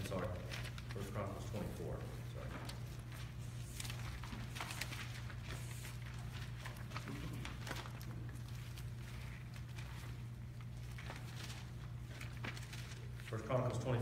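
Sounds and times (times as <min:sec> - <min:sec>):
low electrical hum: 0:00.0 - 0:14.0
pages turning: 0:00.0 - 0:14.0.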